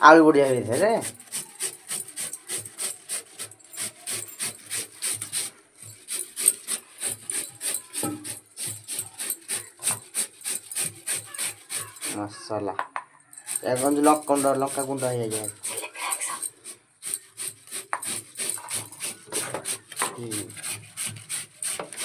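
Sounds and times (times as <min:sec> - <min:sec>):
scraping strokes on potatoes: 0:00.0 - 0:12.4, 0:13.4 - 0:22.0.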